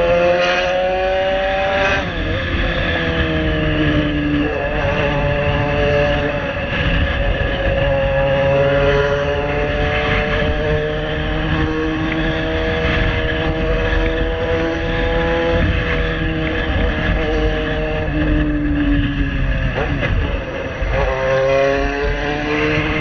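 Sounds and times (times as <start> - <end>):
loud motorcycle engine cruising: 0.0 - 23.0
low rush of wind: 0.0 - 23.0.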